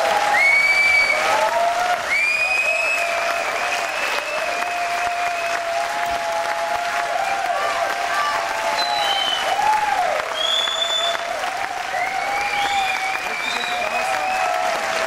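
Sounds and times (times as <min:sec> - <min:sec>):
large audience applauding: 0:00.0 - 0:15.0.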